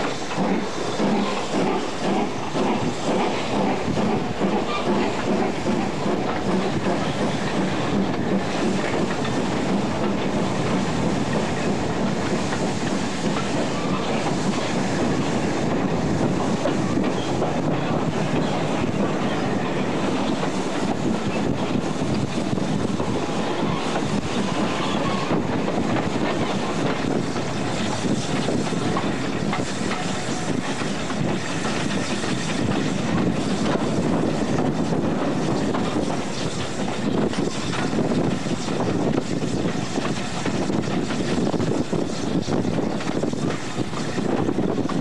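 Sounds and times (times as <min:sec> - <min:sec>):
train wheels clattering on rails: 0:00.0 - 0:45.0.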